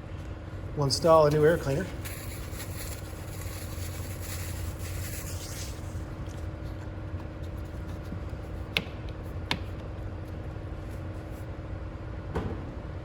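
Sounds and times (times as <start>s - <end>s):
low shop hum: 0.0s - 13.0s.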